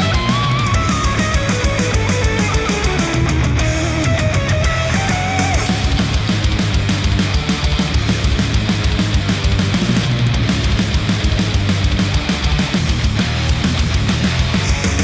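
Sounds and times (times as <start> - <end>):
heavy metal music through headphone: 0.0 - 15.0.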